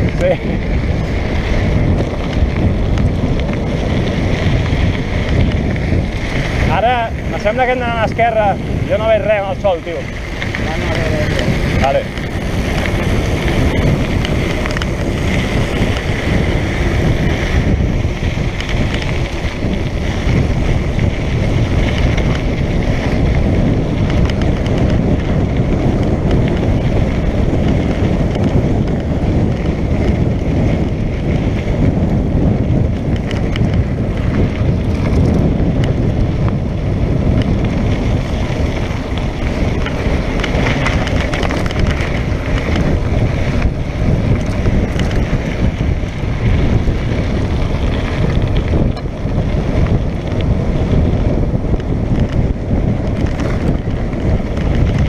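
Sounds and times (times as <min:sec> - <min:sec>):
bike tyres crunching on dirt: 0:00.0 - 0:55.0
wind buffeting microphone: 0:00.0 - 0:55.0.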